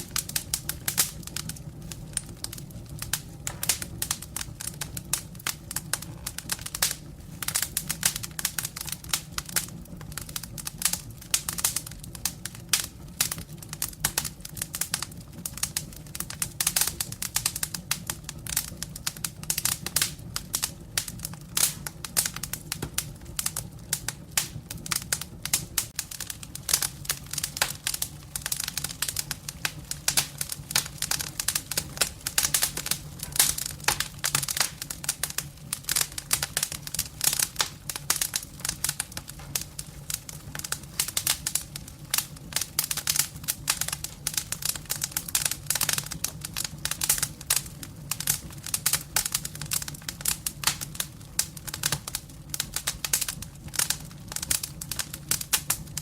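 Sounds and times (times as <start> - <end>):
steady low hum: 0.0 - 45.8
firewood crackling: 0.0 - 56.0.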